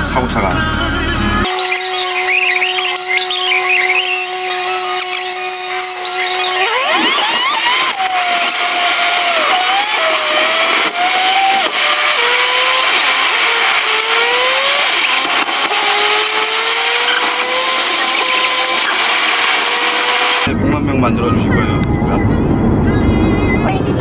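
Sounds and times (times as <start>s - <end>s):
car engine revving: 0.0s - 24.0s
road and wind noise: 4.1s - 24.0s.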